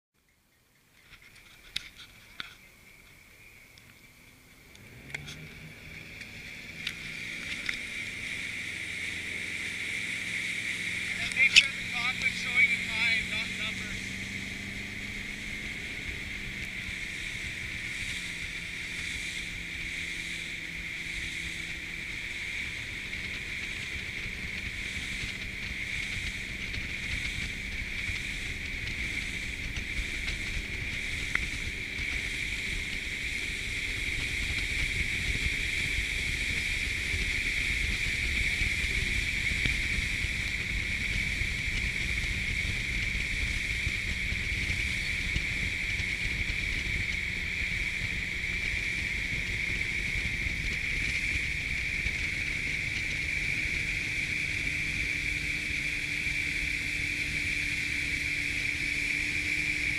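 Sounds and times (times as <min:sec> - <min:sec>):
motorboat engine drone: 0:00.2 - 0:59.9
wind on microphone: 0:05.6 - 0:59.9.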